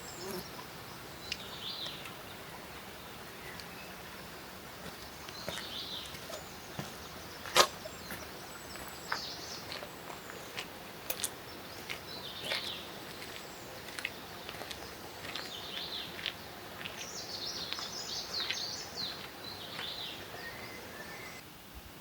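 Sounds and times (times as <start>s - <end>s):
songbirds chirping and singing: 0.0s - 21.4s
faint outdoor hiss: 0.0s - 22.0s.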